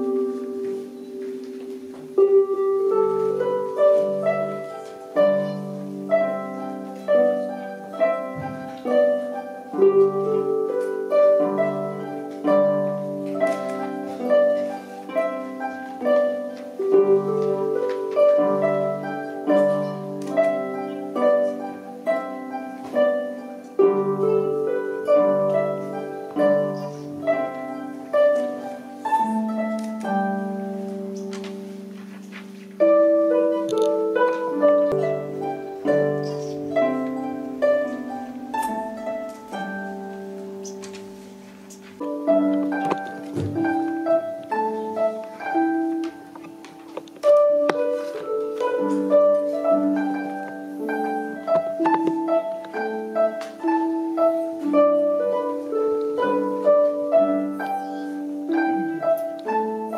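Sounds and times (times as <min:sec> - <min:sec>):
harps playing: 0:00.0 - 0:59.9.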